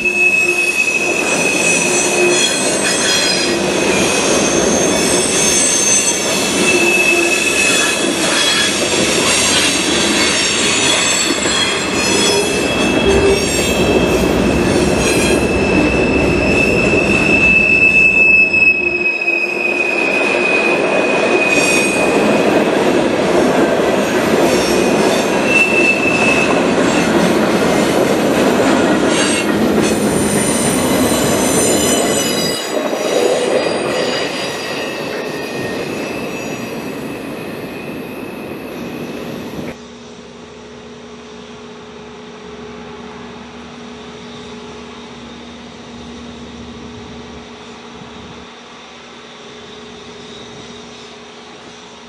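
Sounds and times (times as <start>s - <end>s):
train wheels squealing: 0.0s - 22.7s, 24.0s - 27.9s, 28.6s - 40.2s, 42.8s - 52.0s
freight train cars rolling: 0.0s - 42.0s.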